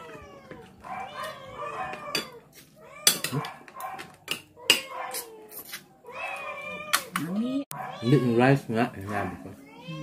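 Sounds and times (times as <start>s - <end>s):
cat meowing: 0.0s - 3.5s, 4.6s - 10.0s.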